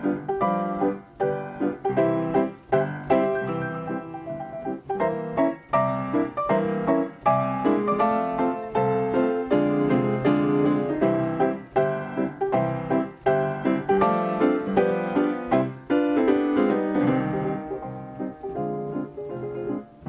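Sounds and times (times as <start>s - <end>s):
player piano playing: 0.0s - 20.0s.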